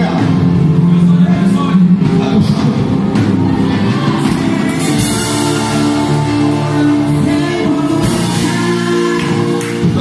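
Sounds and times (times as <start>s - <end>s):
church band playing loud chords: 0.0s - 10.0s.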